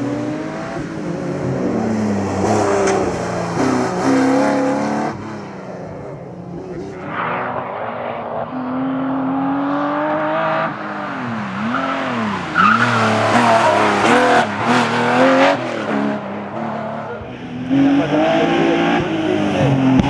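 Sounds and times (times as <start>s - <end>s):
race engine revving: 0.0s - 20.0s.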